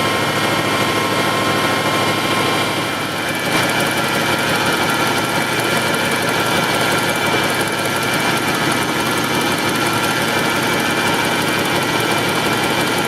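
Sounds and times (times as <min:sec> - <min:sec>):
power steering pump whine: 0:00.0 - 0:13.0
truck engine idling: 0:00.0 - 0:13.0.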